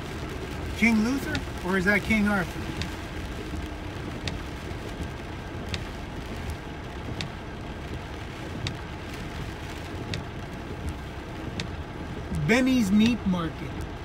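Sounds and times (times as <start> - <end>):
vehicle rumble and tyre hiss: 0.0 - 14.0.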